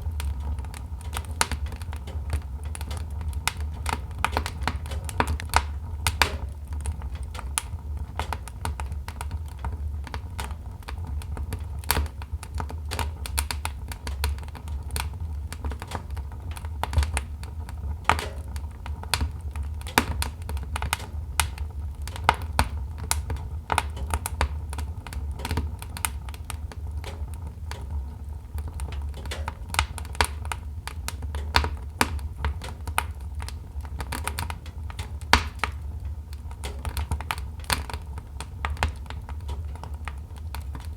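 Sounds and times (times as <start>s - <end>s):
fire crackling and popping: 0.0s - 40.9s
low rumble of fire: 0.0s - 40.9s.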